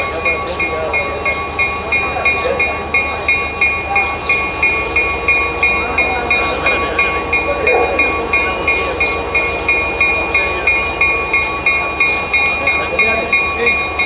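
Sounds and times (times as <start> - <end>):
locomotive bell ringing: 0.0 - 14.0
locomotive engine rumble: 0.0 - 14.0.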